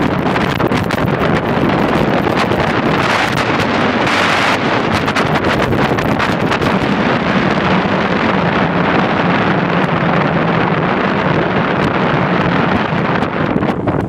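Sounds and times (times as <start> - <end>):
longboard wheels rolling on asphalt: 0.0 - 14.0
wind rushing over microphone: 0.0 - 14.0.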